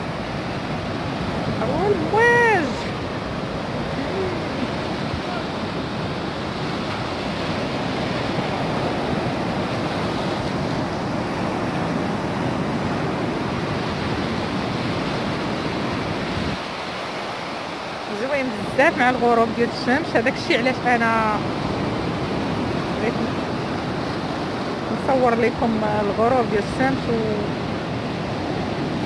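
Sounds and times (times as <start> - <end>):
surf washing over rocks: 0.0 - 29.0.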